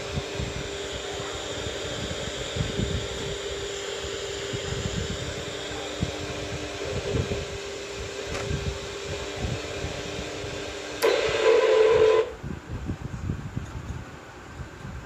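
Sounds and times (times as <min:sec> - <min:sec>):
small electric motor humming: 0:00.0 - 0:12.4.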